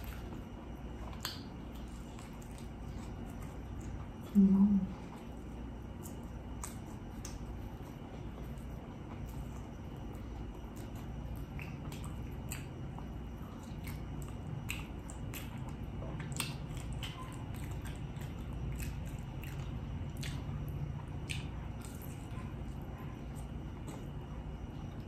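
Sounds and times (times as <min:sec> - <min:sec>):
person chewing with wet mouth sounds: 0:00.0 - 0:25.0.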